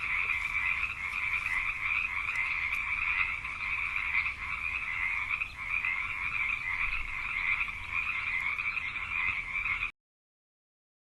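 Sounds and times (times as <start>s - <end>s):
chorus of frogs calling: 0.0s - 10.0s.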